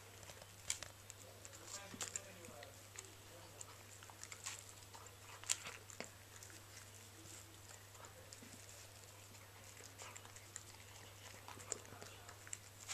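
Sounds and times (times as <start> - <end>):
teeth clicking on metal bowl: 0.0 - 7.0, 9.1 - 12.9
dog chewing food: 0.0 - 12.9.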